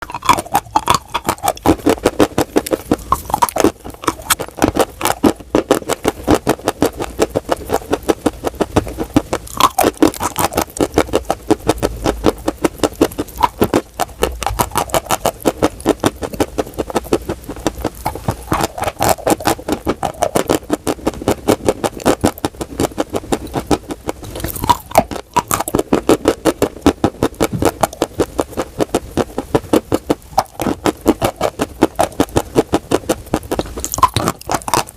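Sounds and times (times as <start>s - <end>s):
chalk being chewed: 0.0s - 34.9s.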